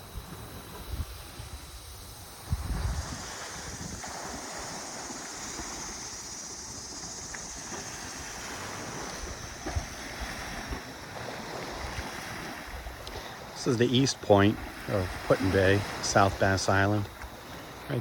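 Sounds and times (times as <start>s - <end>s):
small waves washing on shore: 0.0s - 18.0s
wind gusting on microphone: 0.0s - 18.0s.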